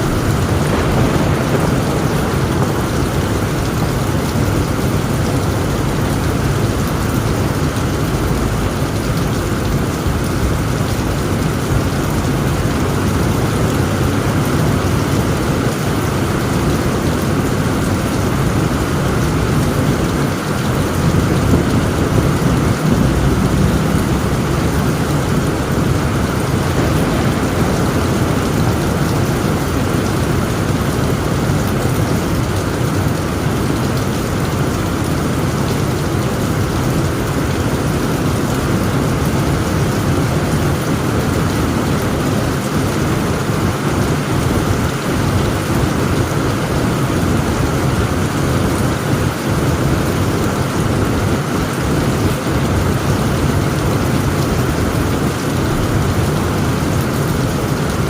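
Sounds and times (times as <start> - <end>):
heavy rain on tent roof: 0.0 - 58.0
low thunder rumble: 0.0 - 58.0.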